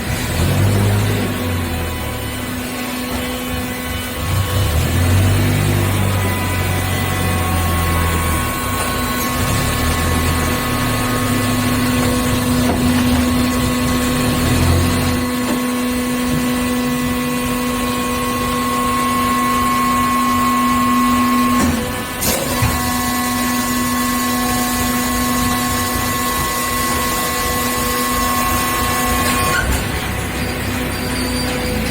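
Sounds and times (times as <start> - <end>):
hydraulic pump motor humming: 0.0 - 31.9.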